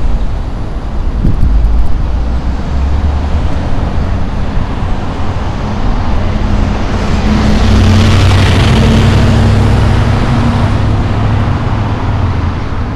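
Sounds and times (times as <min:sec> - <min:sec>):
bus engine hum: 0:00.0 - 0:12.9
cars passing: 0:00.0 - 0:12.9.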